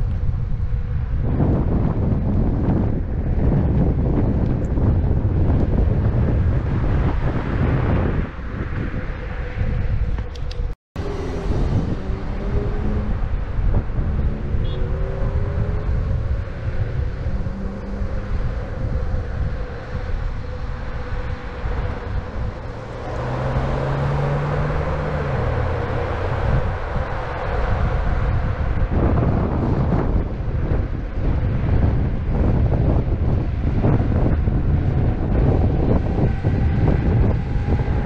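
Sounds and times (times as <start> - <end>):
road traffic passing: 0.0 - 38.0
vehicle engine hum: 0.0 - 38.0
wind rumbling on microphone: 0.0 - 38.0.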